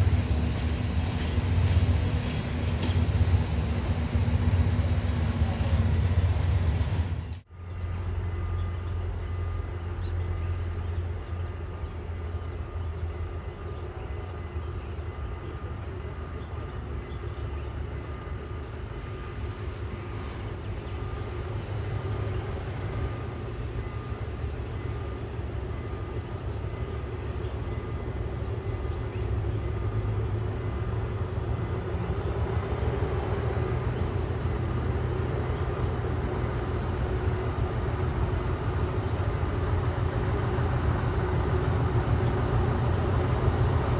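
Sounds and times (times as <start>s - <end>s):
diesel train engine rumble: 0.0s - 43.9s.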